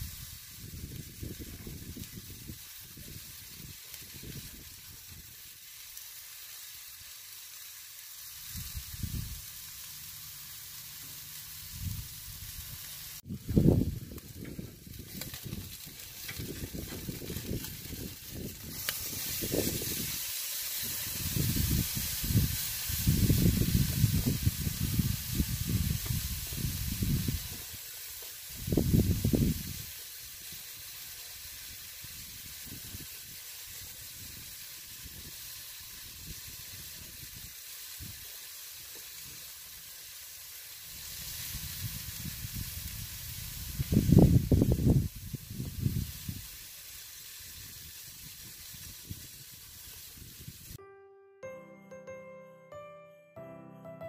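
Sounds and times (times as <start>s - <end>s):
steak sizzling on grill: 0.0s - 50.8s.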